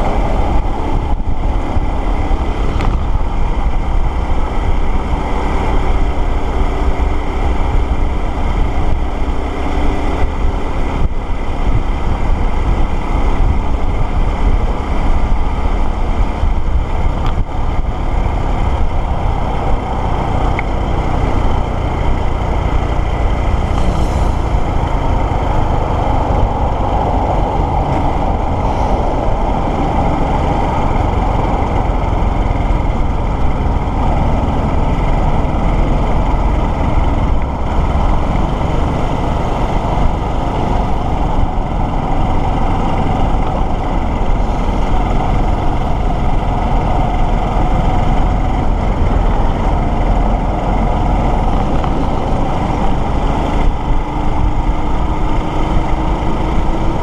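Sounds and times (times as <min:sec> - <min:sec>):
motorcycle engine running: 0:00.0 - 0:57.0
road and traffic noise: 0:00.0 - 0:57.0.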